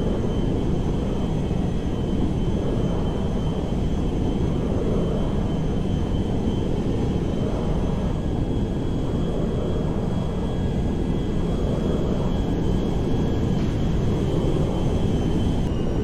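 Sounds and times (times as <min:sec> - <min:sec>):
airplane rumble with whine: 0:00.0 - 0:16.0.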